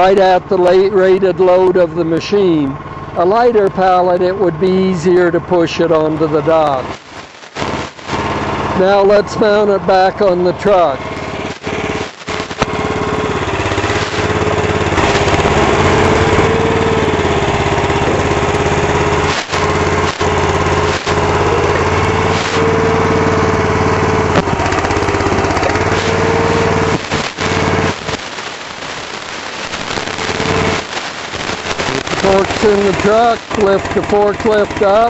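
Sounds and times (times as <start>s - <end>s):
forklift engine running: 0.0s - 35.0s.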